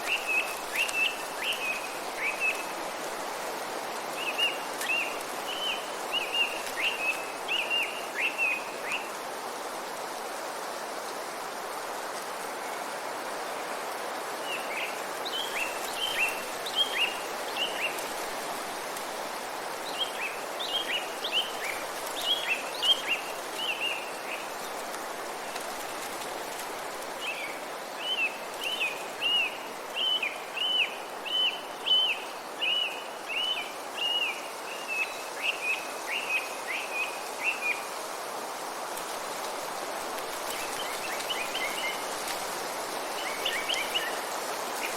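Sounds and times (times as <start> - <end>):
rushing woodland background: 0.0 - 44.9.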